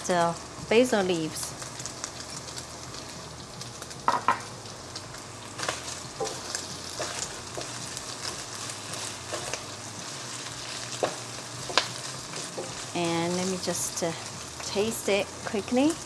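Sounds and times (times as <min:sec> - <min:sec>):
chicken sizzling in a wok: 0:00.0 - 0:16.0.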